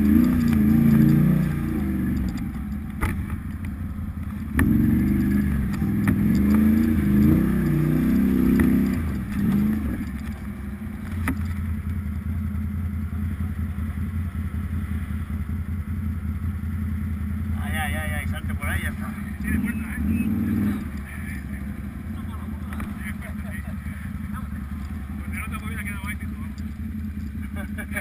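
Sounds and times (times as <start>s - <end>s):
motorcycle engine revving and idling: 0.0s - 28.0s.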